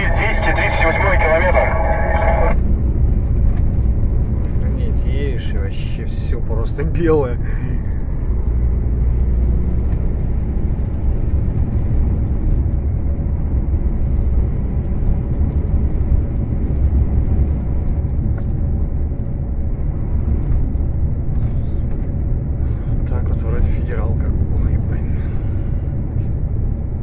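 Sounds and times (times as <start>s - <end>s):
road rumble: 0.0s - 27.0s
truck engine drone: 0.0s - 27.0s.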